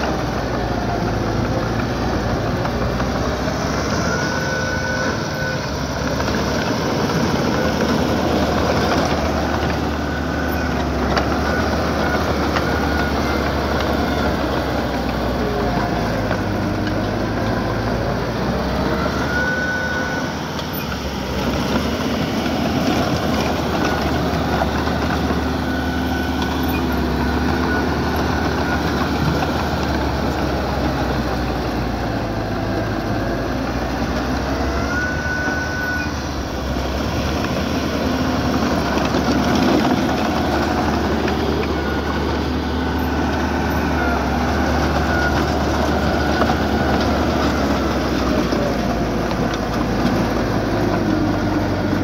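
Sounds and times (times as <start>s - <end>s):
diesel engine running: 0.0s - 52.0s
high squeals: 3.1s - 49.2s.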